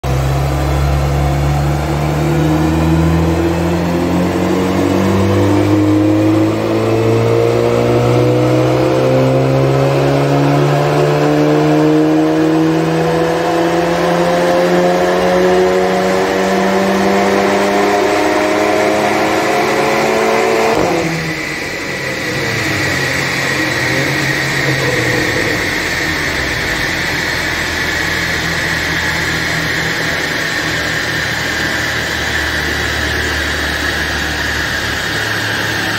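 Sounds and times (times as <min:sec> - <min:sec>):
car engine revving at full throttle: 0:00.0 - 0:35.9
high whine of rollers spinning down: 0:00.0 - 0:35.9.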